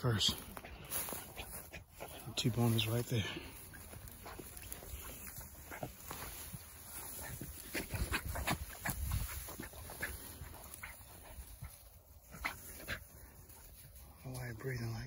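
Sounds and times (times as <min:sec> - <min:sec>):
footsteps walking: 0:00.0 - 0:14.5
dry grass rustling and crackling: 0:00.0 - 0:15.0.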